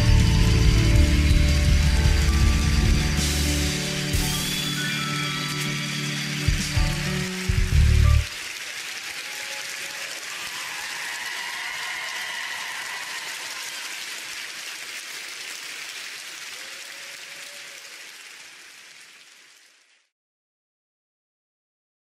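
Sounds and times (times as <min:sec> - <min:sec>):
audience applause: 0:00.0 - 0:20.1.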